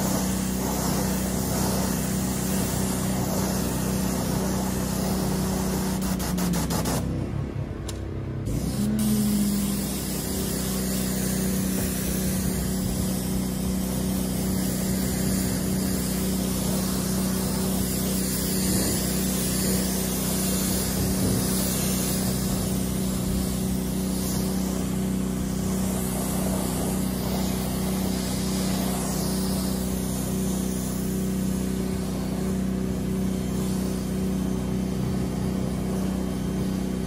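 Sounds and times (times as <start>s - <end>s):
pressure washer jet hissing: 0.0s - 7.1s, 8.5s - 37.0s
pressure washer motor hum: 0.0s - 37.0s.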